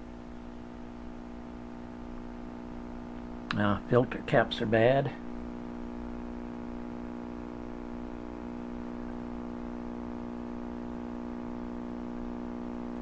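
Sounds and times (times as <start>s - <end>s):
buzzy hum from radio speaker: 0.0s - 13.0s.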